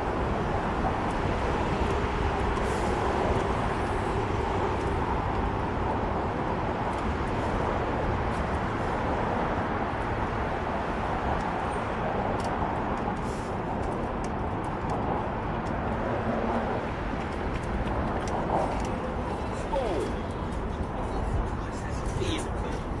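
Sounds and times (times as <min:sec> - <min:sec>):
bicycle road rumble: 0:00.0 - 0:23.0.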